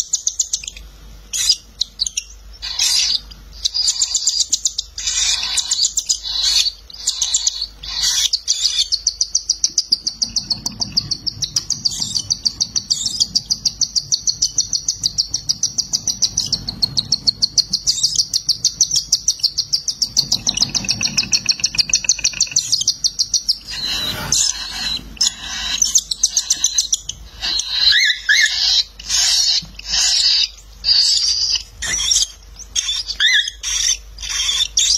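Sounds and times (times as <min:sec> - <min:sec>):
chicks begging calls: 0:00.0 - 0:34.9.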